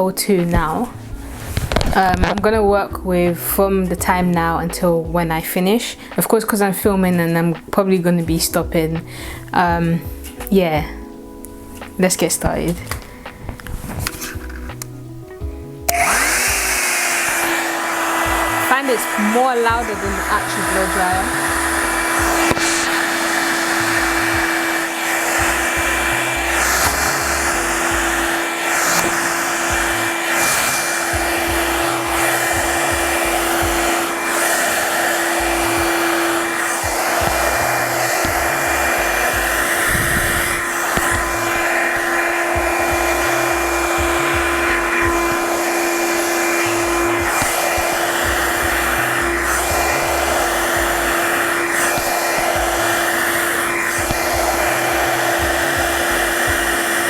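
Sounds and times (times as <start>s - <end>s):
hair dryer running: 0.0s - 11.1s, 11.8s - 57.0s.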